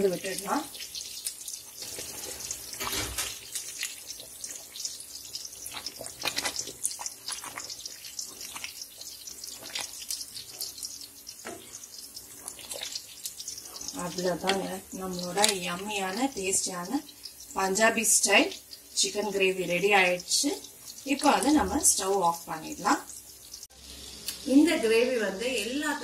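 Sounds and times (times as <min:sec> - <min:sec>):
wooden spoon stirring thick sauce: 0:00.3 - 0:23.4
sauce squelching and popping: 0:00.3 - 0:24.4.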